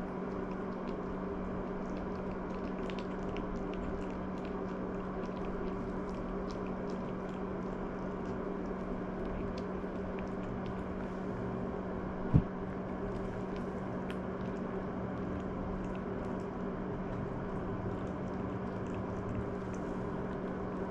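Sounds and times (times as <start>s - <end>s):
puppy chewing dry kibble: 0.0s - 11.3s, 12.3s - 20.9s
electrical hum: 0.0s - 20.9s.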